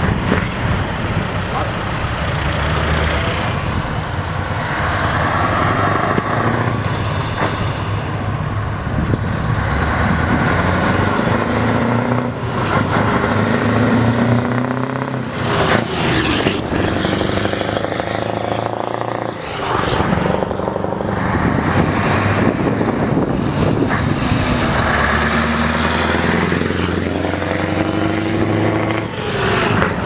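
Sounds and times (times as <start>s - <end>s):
trucks and cars driving past: 0.0s - 30.0s.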